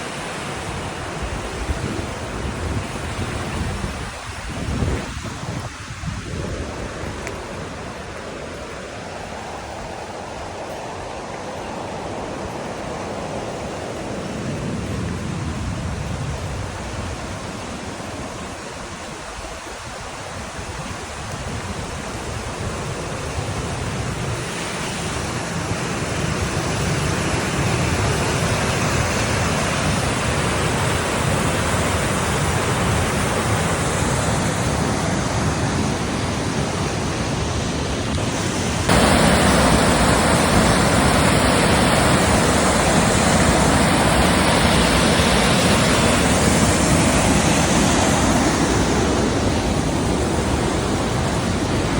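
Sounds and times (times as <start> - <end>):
rushing mountain stream: 0.0 - 51.9.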